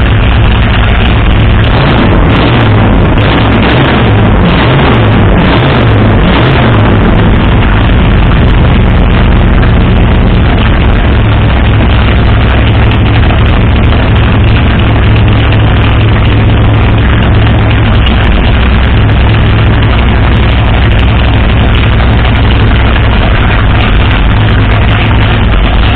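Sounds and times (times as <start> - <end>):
loud car engine idling: 0.0 - 25.9.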